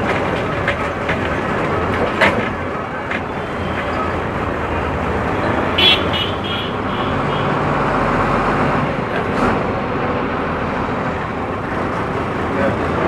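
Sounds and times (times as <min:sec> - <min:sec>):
bus engine hum and road noise: 0:00.0 - 0:13.0.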